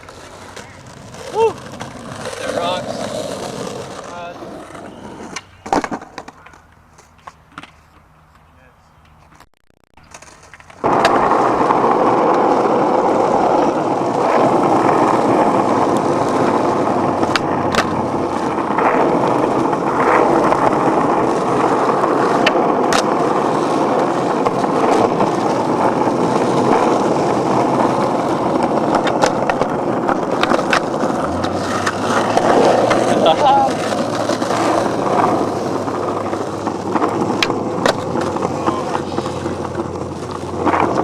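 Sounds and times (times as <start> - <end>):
skateboard wheels rolling on pavement: 0.0 - 41.0
sharp clicks from grit under wheels: 5.2 - 41.0.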